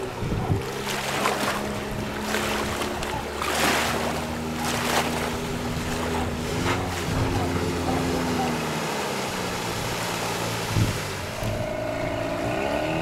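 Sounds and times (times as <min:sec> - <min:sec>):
outboard motor running: 0:00.0 - 0:13.0
wind and water rushing: 0:00.0 - 0:13.0.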